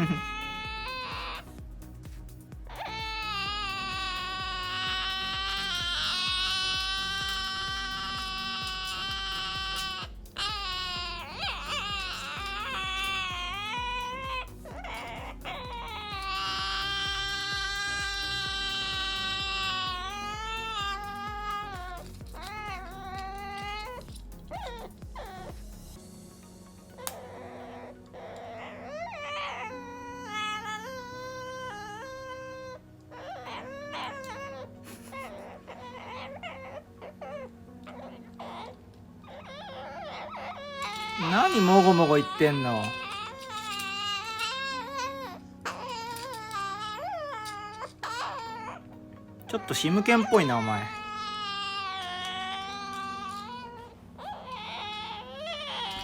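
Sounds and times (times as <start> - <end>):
background music: 0.0 - 56.0
cockatoo whining calls: 0.0 - 56.0.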